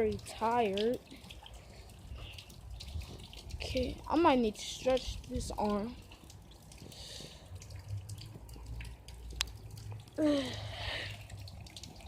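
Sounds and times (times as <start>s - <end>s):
rain dripping: 0.0s - 12.0s.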